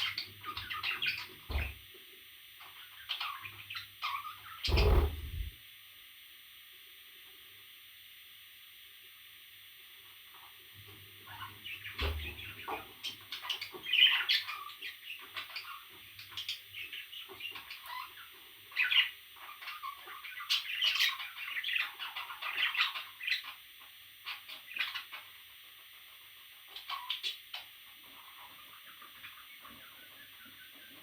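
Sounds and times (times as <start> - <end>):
parrot chicks chirping and squawking: 0.0 - 1.9, 2.5 - 5.5, 10.3 - 31.0.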